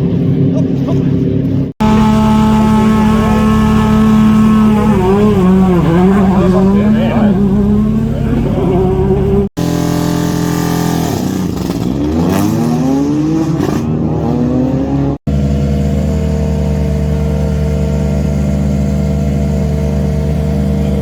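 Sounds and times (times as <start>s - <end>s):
car engine revving: 1.8s - 21.0s.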